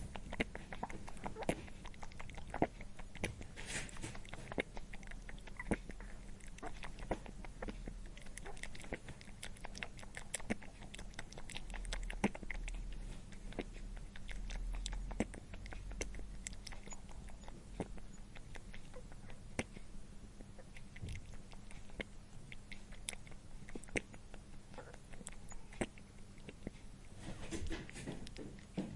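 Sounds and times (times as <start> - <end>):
animal chewing and crunching food: 0.0 - 28.9.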